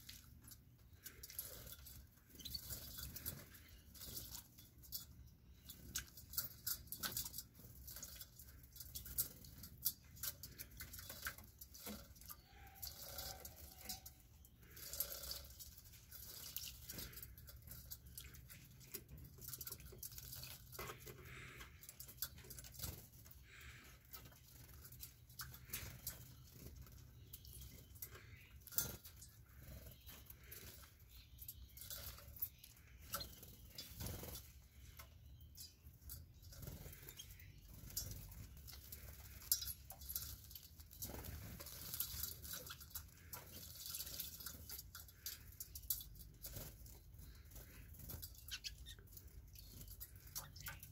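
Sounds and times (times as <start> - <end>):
birds splashing in water bowl: 0.0 - 50.9.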